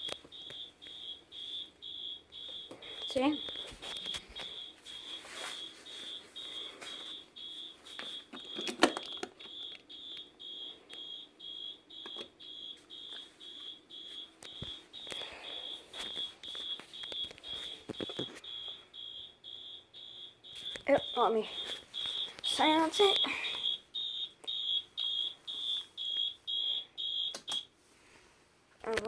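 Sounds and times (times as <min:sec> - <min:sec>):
fire alarm beeping: 0:00.0 - 0:27.7.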